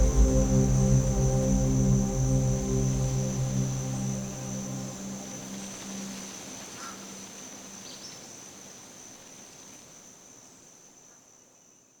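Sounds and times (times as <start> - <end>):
faint outdoor ambience: 0.0 - 12.0
insects droning: 0.0 - 12.0.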